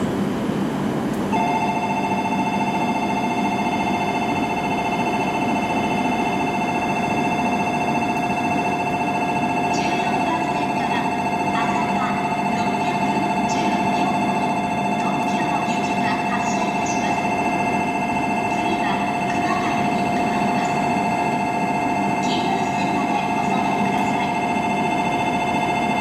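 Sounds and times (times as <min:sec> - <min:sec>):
two-tone electronic departure bell: 0:01.3 - 0:26.0.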